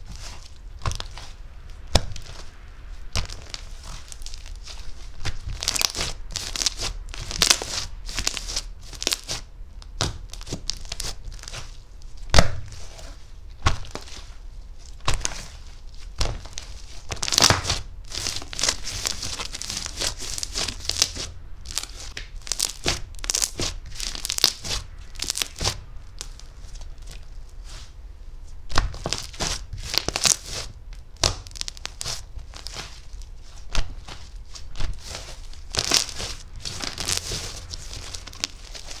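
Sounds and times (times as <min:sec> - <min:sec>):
slime squelching and crackling: 0:00.0 - 0:28.0, 0:28.6 - 0:39.0.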